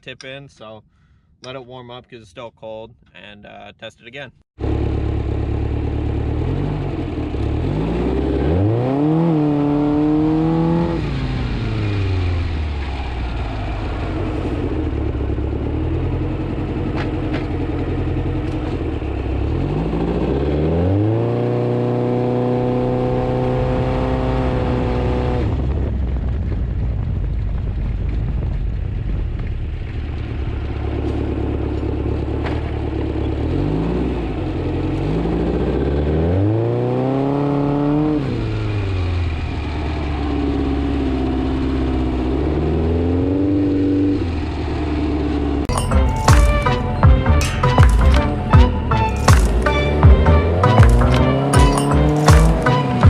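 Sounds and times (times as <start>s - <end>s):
buggy engine revving: 4.6s - 26.8s, 28.3s - 53.0s.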